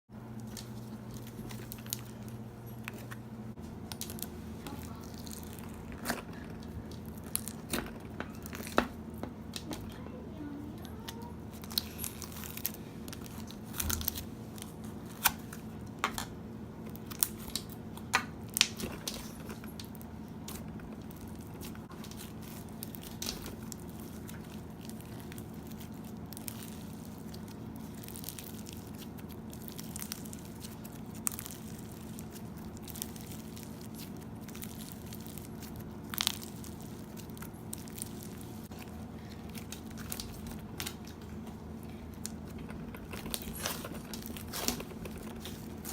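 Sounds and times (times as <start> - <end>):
steady low hum: 0.1 - 45.9.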